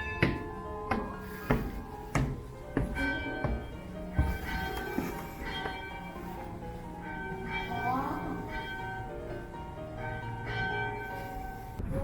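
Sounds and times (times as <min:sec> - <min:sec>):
carillon bells ringing: 0:00.0 - 0:11.8.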